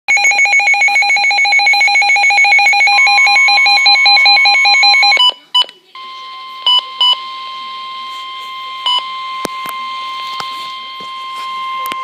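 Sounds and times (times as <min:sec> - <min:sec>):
steady alarm tone: 0:00.1 - 0:05.2, 0:06.0 - 0:12.0
pulsing electronic alarm: 0:00.1 - 0:05.3, 0:06.0 - 0:12.0.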